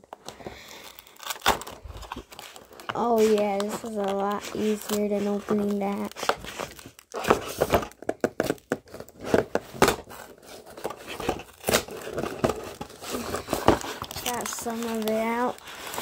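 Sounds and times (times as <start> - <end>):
packaging crinkling and tearing: 0.0 - 16.0
cardboard tabs snapping: 0.2 - 16.0.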